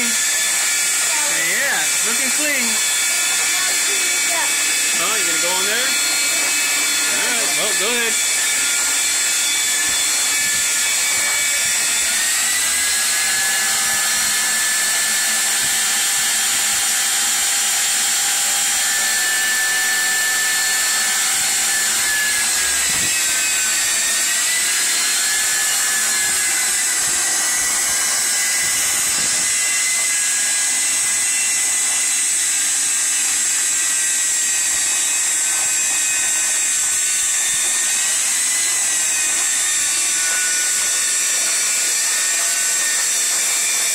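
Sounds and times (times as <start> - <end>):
shop vacuum running: 0.0 - 43.9.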